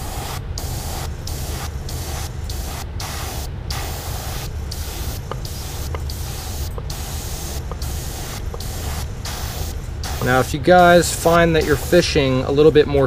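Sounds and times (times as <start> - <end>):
airbrush spraying hiss: 0.0 - 12.5
low steady hum: 0.0 - 13.0.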